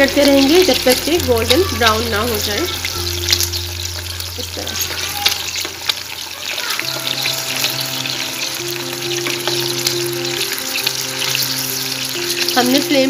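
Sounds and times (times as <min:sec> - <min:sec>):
background music: 0:00.0 - 0:13.0
patties sizzling in oil: 0:00.0 - 0:13.0.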